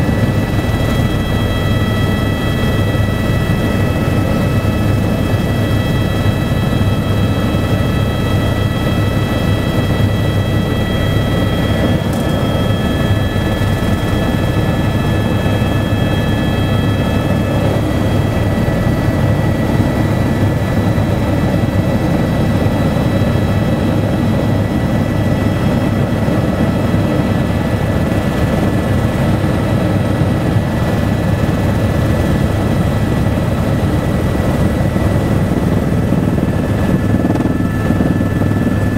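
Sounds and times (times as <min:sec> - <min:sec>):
helicopter rotor and engine rumble: 0:00.0 - 0:38.9
high turbine whine: 0:00.0 - 0:38.9.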